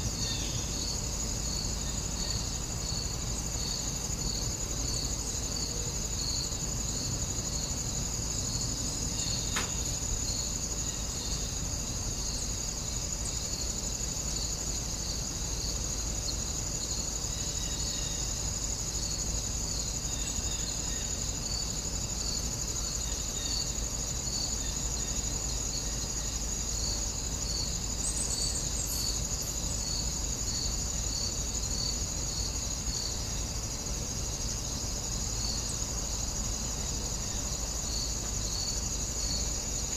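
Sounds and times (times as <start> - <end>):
insects trilling: 0.0 - 39.9
lower insect chirp: 0.0 - 39.9.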